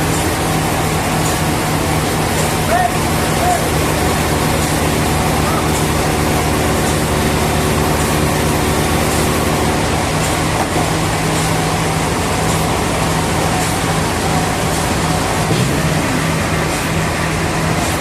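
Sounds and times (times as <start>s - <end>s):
sawmill machinery engine drone: 0.0s - 18.0s.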